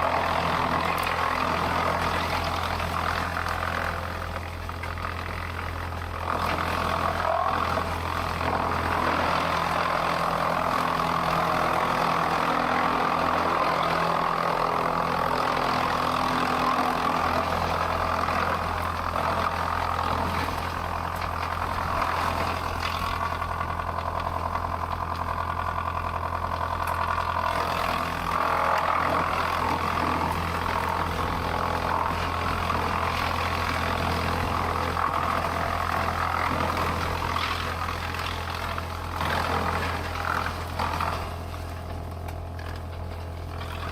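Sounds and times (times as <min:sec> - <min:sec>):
heavy machinery droning: 0:00.0 - 0:43.9.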